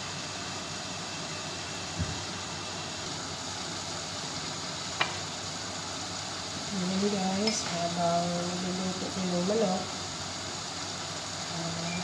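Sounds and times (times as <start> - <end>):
gas stove hissing: 0.0 - 12.0.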